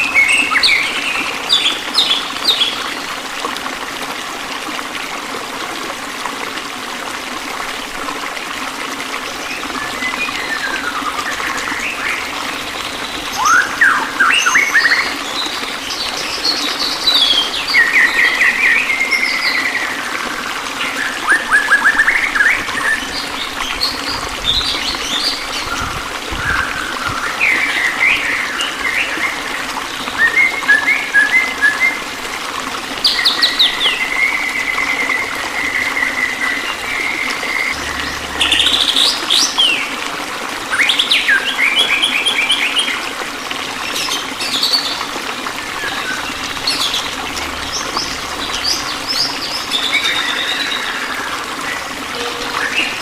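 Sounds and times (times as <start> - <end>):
trickle of running water: 0.0 - 53.0.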